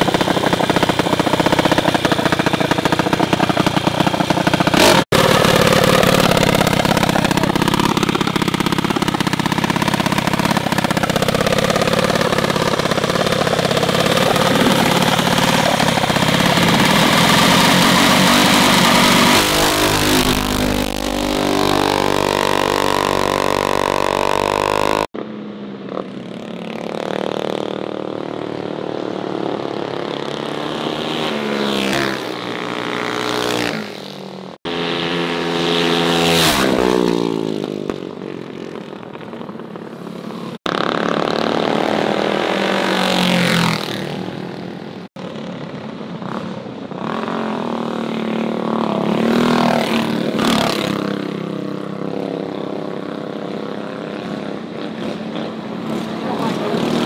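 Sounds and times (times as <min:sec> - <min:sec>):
mini bike engines revving: 0:00.0 - 0:57.0.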